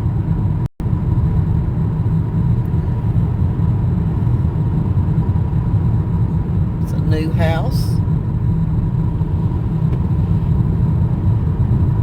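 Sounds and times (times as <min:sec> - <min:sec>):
car driving heard from inside: 0:00.0 - 0:12.0.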